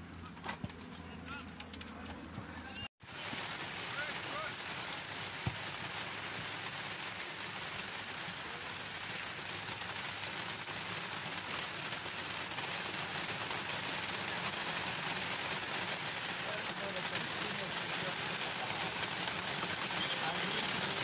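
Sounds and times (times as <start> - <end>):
outdoor hiss with crackle: 3.0 - 21.0.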